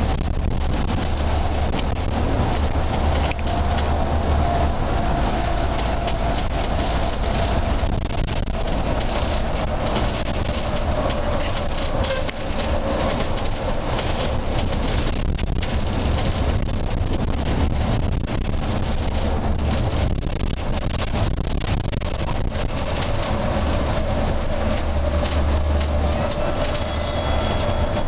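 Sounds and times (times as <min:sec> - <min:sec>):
bus engine drone: 0:00.0 - 0:28.0
road rumble: 0:00.0 - 0:28.0.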